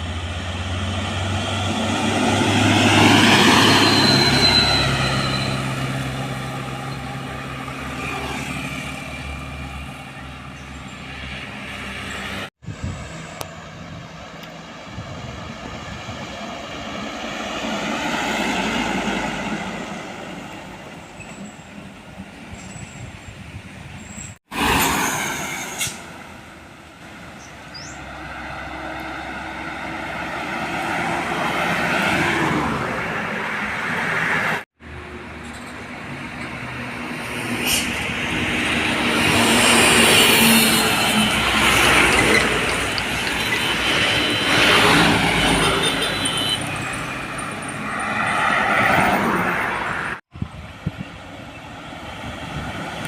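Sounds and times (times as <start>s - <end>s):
diesel trucks passing: 0.0s - 53.0s.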